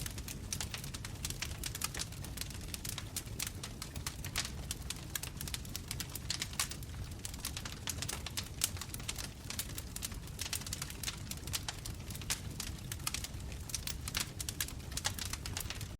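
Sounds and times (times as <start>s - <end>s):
bonfire crackling: 0.0s - 15.9s.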